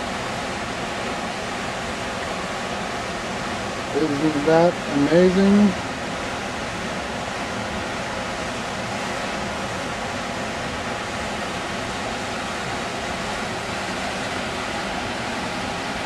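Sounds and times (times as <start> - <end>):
creek water rushing over rocks: 0.0 - 16.0.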